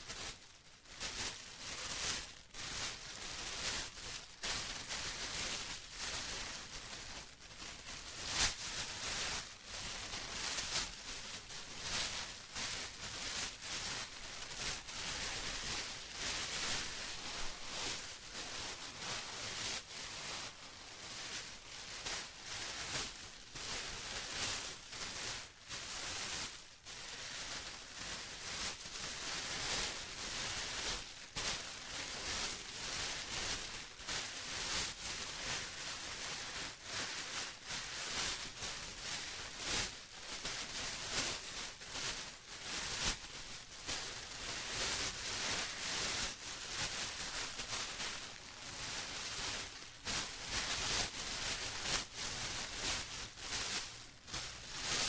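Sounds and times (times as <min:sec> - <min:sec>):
plastic rustling and crinkling: 0:00.0 - 0:55.0.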